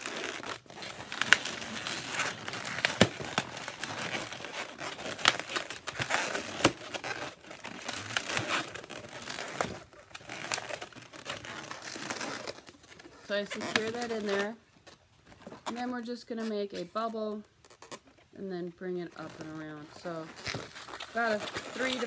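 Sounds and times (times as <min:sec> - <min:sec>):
balloons rubbing and crinkling: 0:00.0 - 0:22.0.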